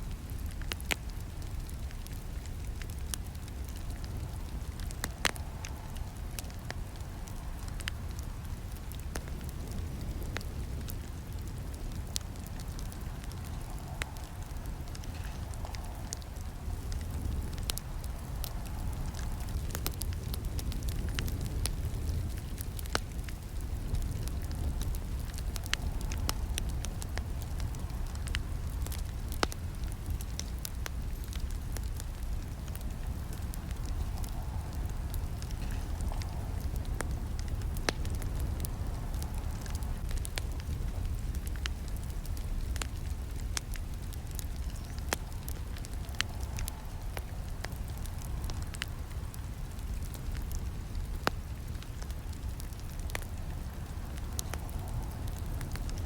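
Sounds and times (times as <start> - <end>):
burning wood crackling: 0.0 - 56.0
campfire flames rumbling: 0.0 - 56.0.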